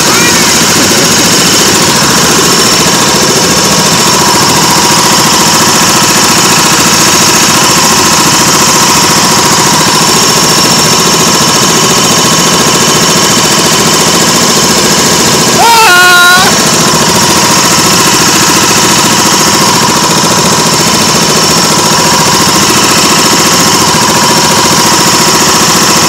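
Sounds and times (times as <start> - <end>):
small gasoline engine running: 0.0 - 26.0.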